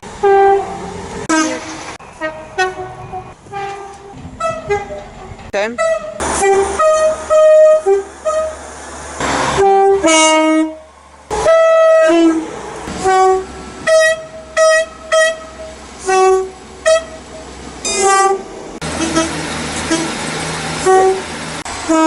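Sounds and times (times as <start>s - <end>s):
train two-tone horn blasts: 0.2s - 8.6s, 9.3s - 20.2s, 20.8s - 22.0s.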